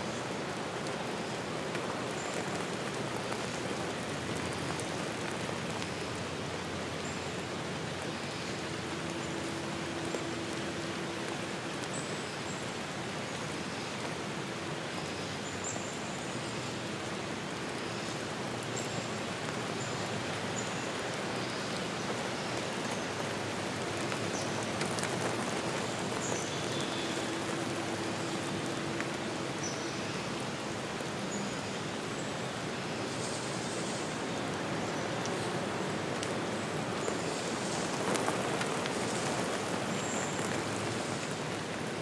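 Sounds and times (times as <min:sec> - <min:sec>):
steady rushing hiss: 0:00.0 - 0:42.0.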